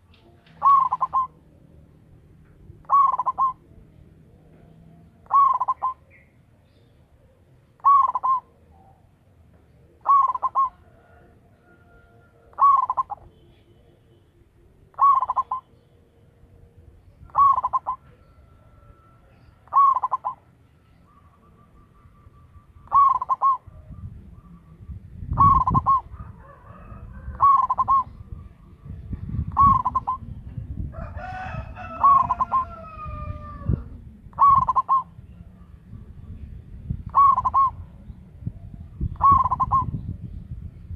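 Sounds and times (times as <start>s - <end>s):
dove cooing: 0.0s - 1.8s, 2.4s - 6.2s, 7.1s - 9.1s, 9.7s - 13.3s, 14.8s - 15.8s, 16.8s - 40.2s.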